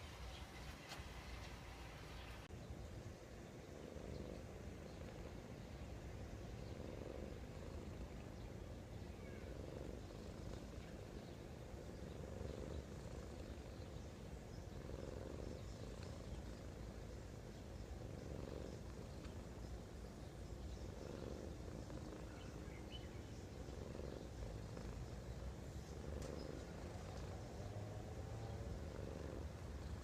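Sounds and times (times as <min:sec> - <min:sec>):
cat snoring: 0:03.8 - 0:05.7, 0:06.3 - 0:30.0.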